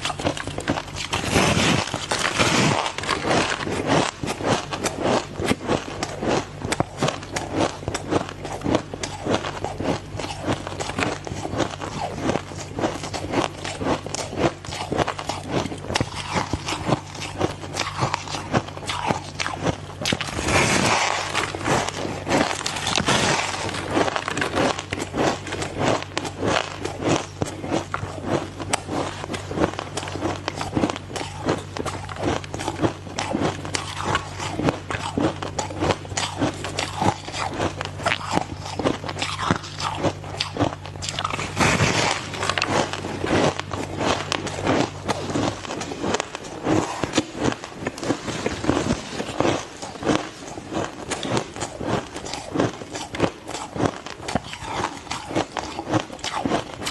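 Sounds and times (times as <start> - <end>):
ice being chewed: 0.0 - 56.9
steady low hum: 0.0 - 56.9.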